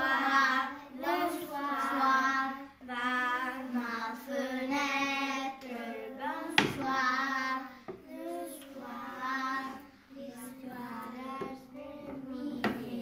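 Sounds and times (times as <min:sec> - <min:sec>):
children singing slow song: 0:00.0 - 0:13.0.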